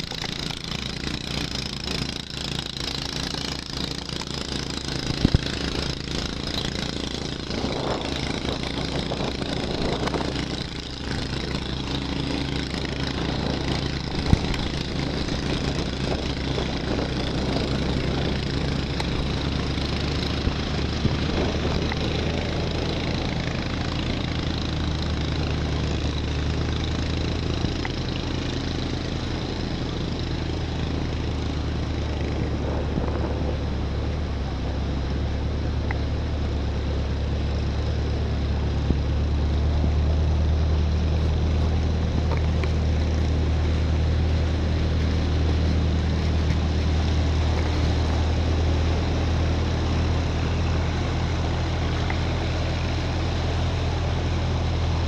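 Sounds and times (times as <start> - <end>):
vehicle engine humming: 0.0 - 55.0
vehicles ploughing through floodwater: 0.0 - 55.0.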